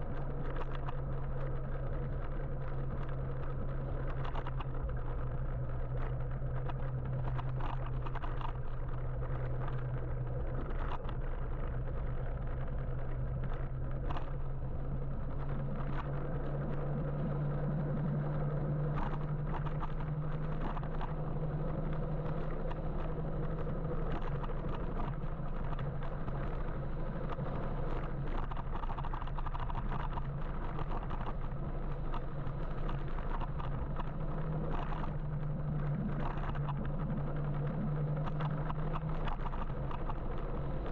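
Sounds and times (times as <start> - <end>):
constant low hum: 0.0 - 40.9.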